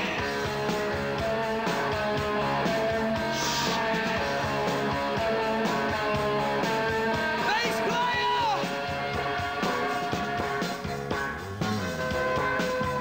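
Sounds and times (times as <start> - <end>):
bass guitar: 0.0 - 13.0
electric guitar: 0.0 - 13.0
rock band playing live: 0.0 - 13.0.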